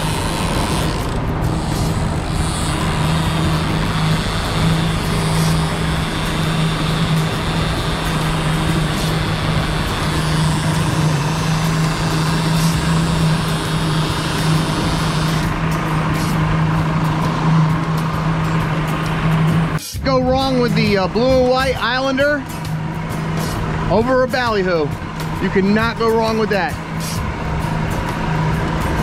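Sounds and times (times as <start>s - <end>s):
outboard motor humming: 0.0s - 29.0s
water rushing along hull: 0.0s - 29.0s.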